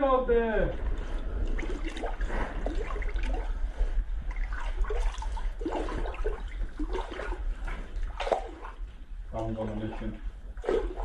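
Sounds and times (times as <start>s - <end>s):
steady low rumble: 0.0s - 11.0s
water sloshing and splashing: 0.7s - 11.0s.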